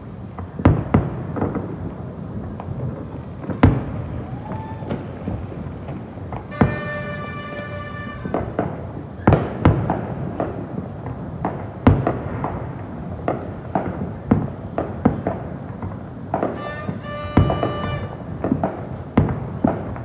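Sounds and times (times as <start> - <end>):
fireworks bangs and thuds: 0.2 - 20.0.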